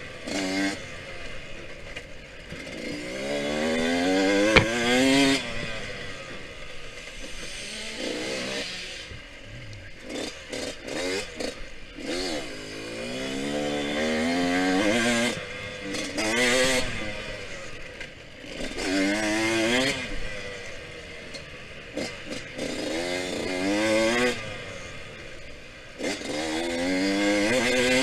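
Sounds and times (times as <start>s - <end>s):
two-stroke dirt bike engine revving: 0.0s - 28.0s.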